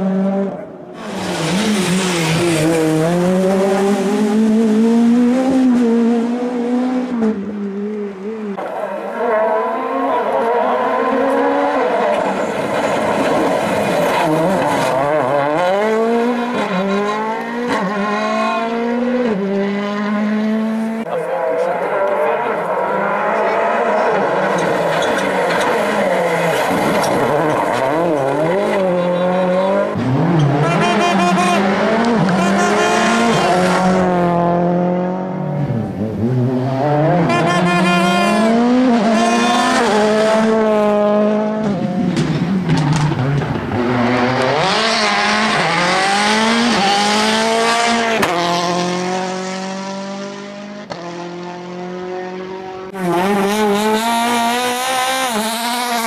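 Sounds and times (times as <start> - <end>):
rally car engines at full throttle: 0.0 - 56.0.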